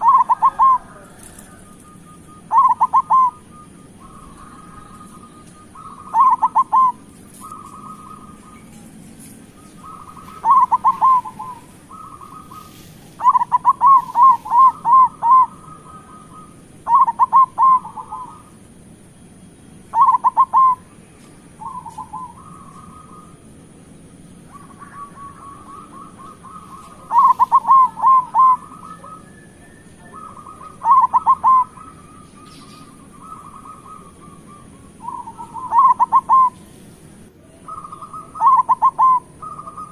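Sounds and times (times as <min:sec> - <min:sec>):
dove cooing: 0:00.0 - 0:19.0, 0:19.9 - 0:39.9.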